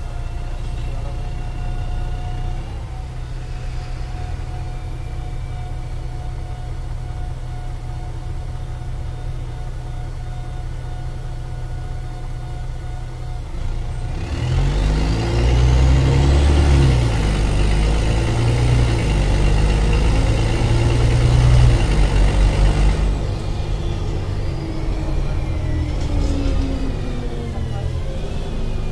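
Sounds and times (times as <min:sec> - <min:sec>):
diesel bus engine revving: 0:00.0 - 0:28.9.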